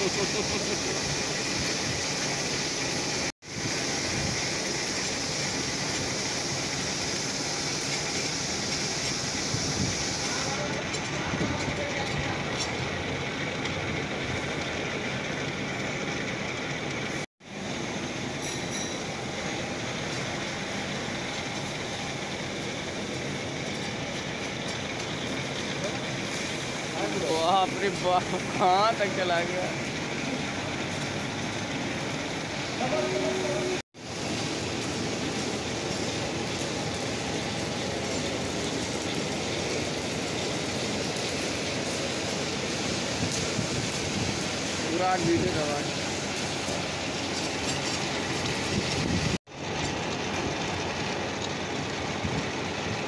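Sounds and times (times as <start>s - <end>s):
metal lathe running: 0.0s - 53.0s.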